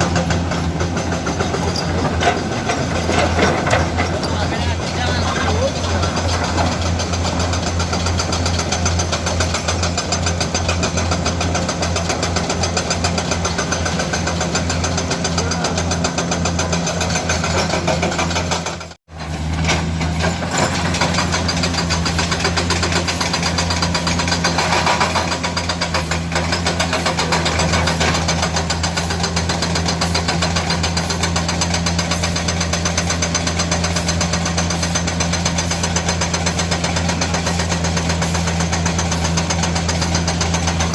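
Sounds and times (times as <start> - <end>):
excavator diesel engine pulsing: 0.0 - 40.9.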